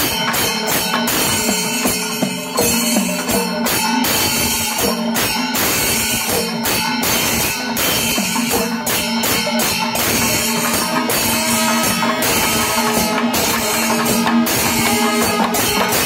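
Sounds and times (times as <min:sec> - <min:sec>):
drums beating in rhythm: 0:00.0 - 0:16.0
small hand cymbals clashing: 0:00.0 - 0:16.0.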